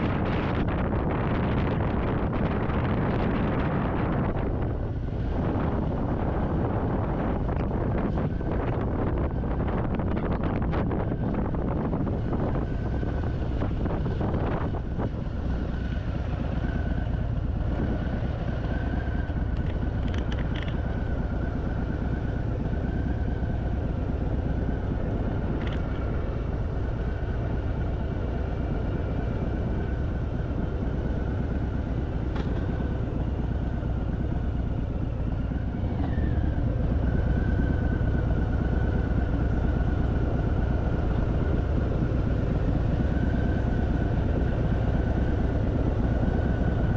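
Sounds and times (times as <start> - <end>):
motorcycle engine running: 0.0 - 46.9
road and wind noise: 0.0 - 46.9.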